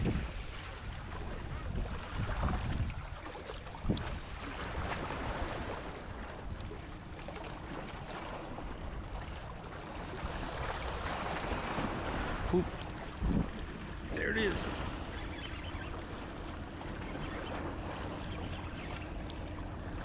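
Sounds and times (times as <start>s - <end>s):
wind buffeting microphone: 0.0s - 6.9s, 10.0s - 20.0s.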